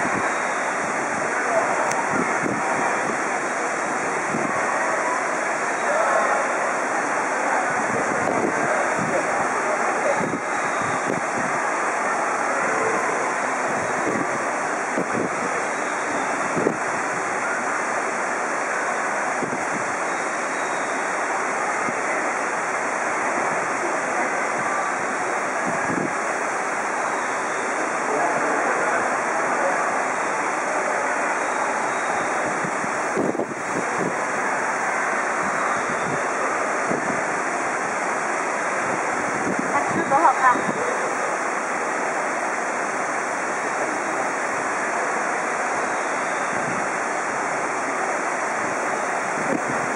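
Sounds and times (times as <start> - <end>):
steady rushing noise: 0.0 - 49.9.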